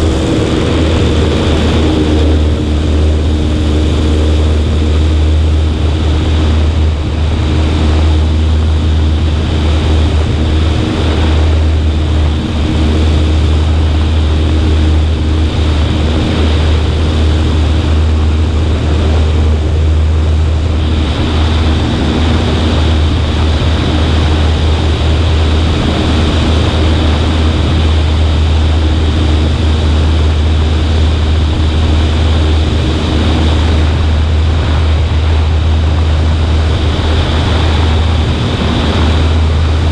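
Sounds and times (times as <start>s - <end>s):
propeller plane engine droning: 0.0s - 39.9s
wind noise rushing: 0.0s - 39.9s.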